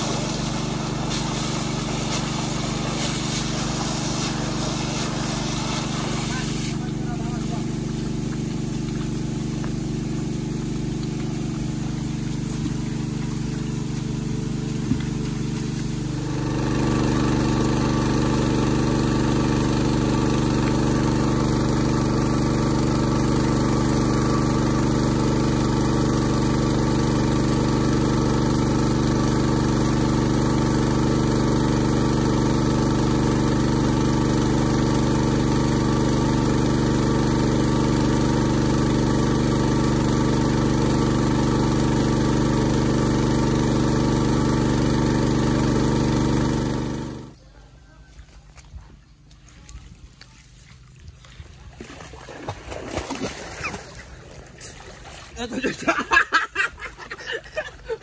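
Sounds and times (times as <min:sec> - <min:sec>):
small petrol engine running: 0:00.0 - 0:47.4.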